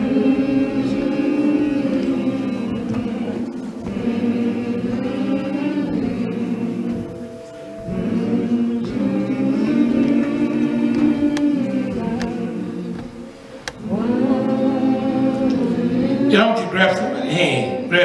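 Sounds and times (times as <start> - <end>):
choir singing a hymn: 0.0 - 18.0.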